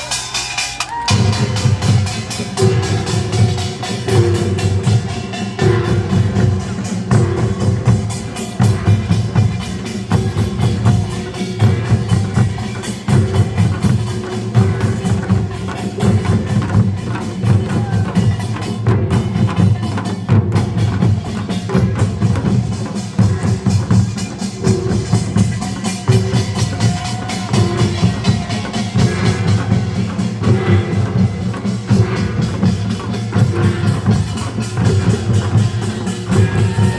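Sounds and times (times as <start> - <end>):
drums beaten in fast rhythm: 0.0 - 36.9.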